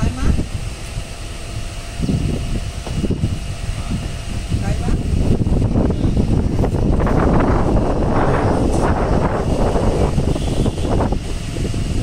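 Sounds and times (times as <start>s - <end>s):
train wheels on rails: 0.0s - 12.0s
wind buffeting microphone: 0.0s - 12.0s.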